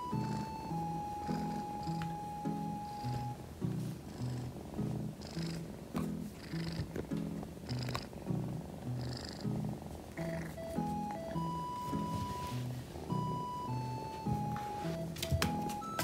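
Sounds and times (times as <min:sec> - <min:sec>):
kitten purring: 0:00.0 - 0:16.0
music of short repeating notes: 0:00.0 - 0:16.0.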